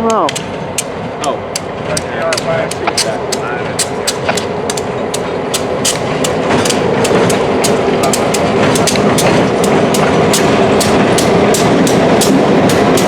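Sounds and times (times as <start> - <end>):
train wheels rumbling on rails: 0.0 - 13.0
wheels clicking over rail joints: 0.0 - 13.0.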